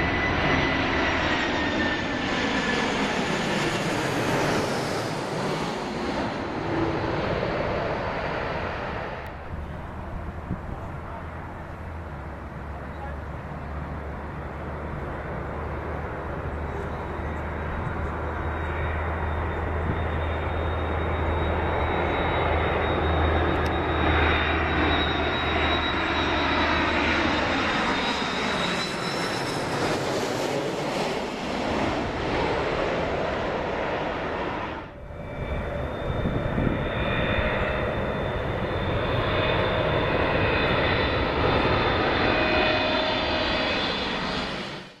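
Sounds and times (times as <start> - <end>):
high steady engine whine: 0.0 - 45.0
jet engines roaring: 0.0 - 45.0.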